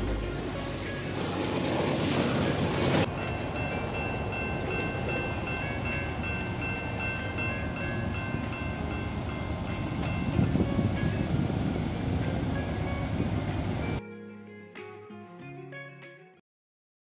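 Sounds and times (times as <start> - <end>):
diesel train rumble: 0.0 - 14.0
freight train cars rolling: 0.0 - 14.0.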